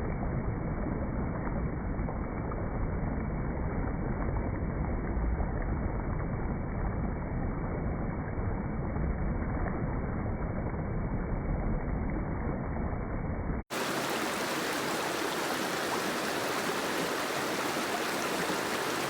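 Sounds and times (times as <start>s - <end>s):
soft rain falling: 0.0s - 12.2s, 13.7s - 19.0s.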